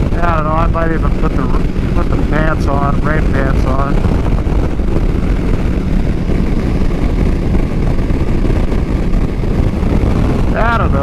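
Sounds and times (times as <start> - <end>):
motorcycle engine drone: 0.0 - 11.0
wind rushing on microphone: 0.0 - 11.0.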